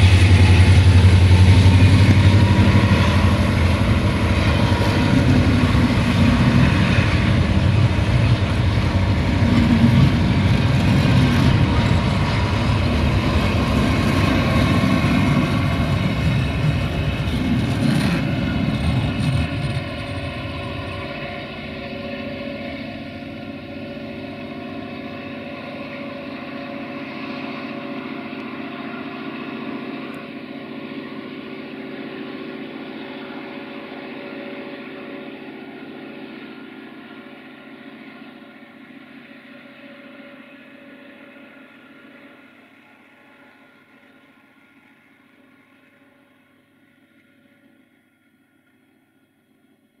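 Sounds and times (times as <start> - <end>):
train wheels rumbling on rails: 0.0 - 49.8
train droning: 0.0 - 50.0.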